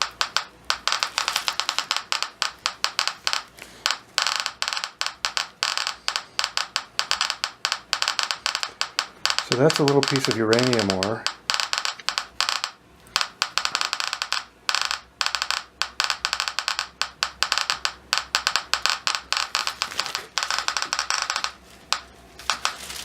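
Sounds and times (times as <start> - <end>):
geiger counter clicking: 0.0 - 23.0.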